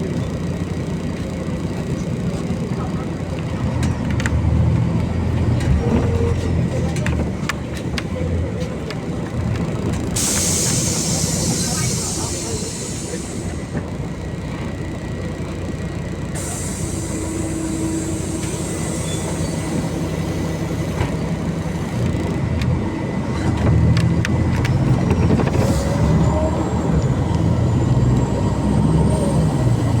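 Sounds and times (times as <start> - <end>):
bus diesel engine: 0.0 - 30.0
road noise: 0.0 - 30.0.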